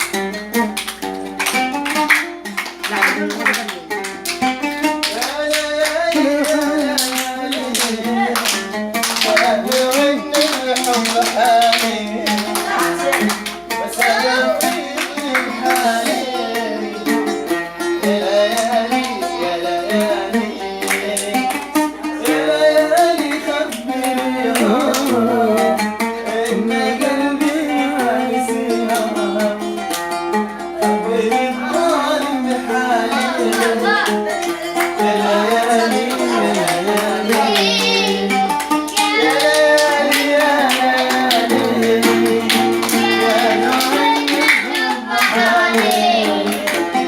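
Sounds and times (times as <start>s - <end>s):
hand percussion: 0.0s - 47.0s
plucked string instrument: 0.0s - 47.0s
man singing: 2.8s - 29.9s, 30.8s - 47.0s.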